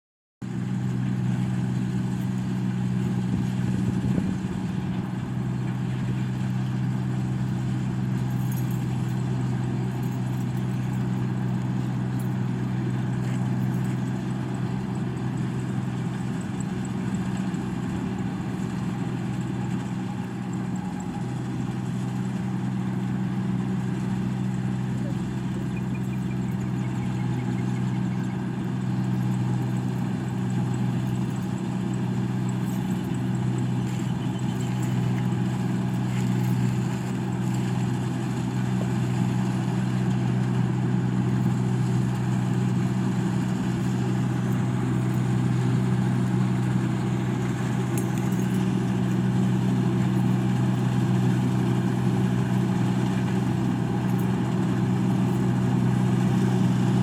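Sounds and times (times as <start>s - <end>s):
machine engine humming: 0.5s - 57.0s.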